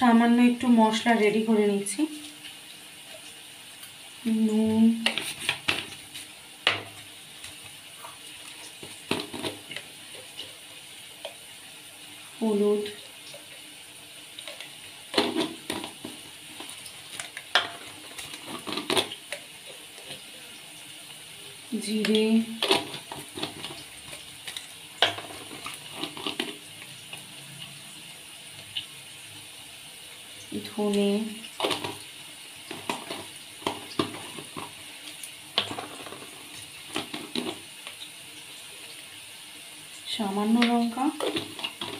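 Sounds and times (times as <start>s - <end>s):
potatoes sizzling in oil: 0.0s - 41.9s.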